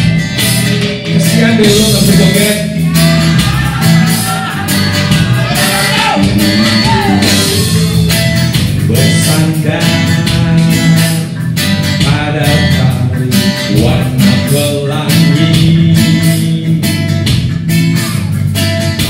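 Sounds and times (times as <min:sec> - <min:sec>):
bass guitar: 0:00.0 - 0:19.0
reggae guitar chords: 0:00.0 - 0:19.0.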